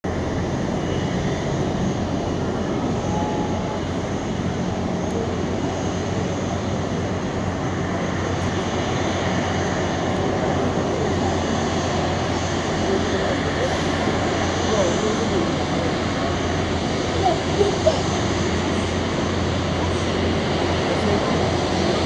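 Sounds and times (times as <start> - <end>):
jet engines at low power: 0.0 - 22.0.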